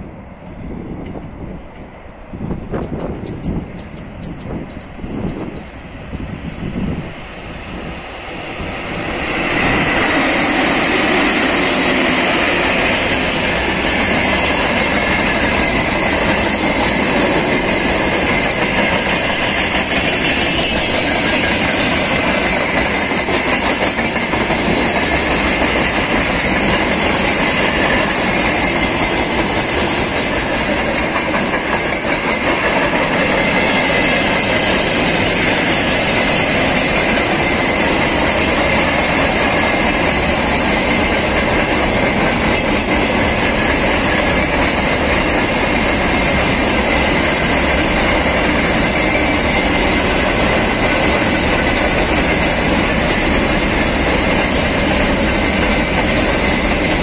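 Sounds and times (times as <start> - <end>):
freight train rolling past: 0.0 - 57.0
steel wheels clattering on rails: 1.0 - 57.0.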